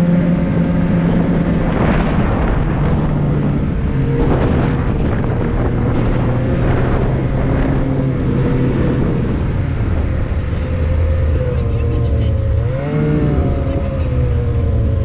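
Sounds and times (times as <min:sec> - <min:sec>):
snowmobile engine running: 0:00.0 - 0:15.0
wind rushing over microphone: 0:00.0 - 0:15.0.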